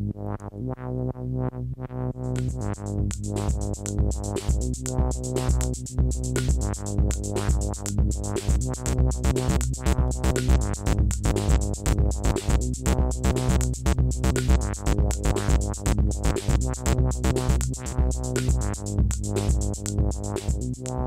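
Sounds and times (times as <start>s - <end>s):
sustained synth bass tones: 0.0s - 21.0s
pulsing modular synthesizer rhythm: 2.0s - 21.0s.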